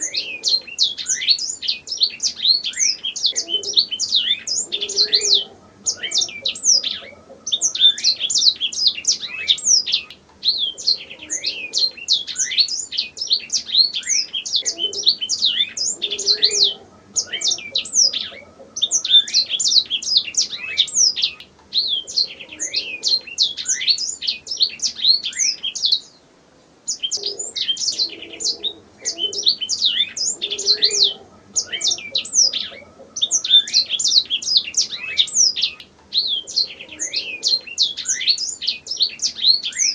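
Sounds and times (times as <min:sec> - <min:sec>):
canary singing trills: 0:00.0 - 0:26.2, 0:26.9 - 0:39.9.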